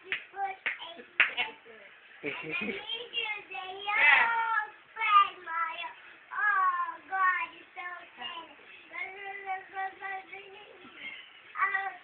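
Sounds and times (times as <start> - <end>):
girl singing: 0.0 - 1.6, 2.4 - 12.0.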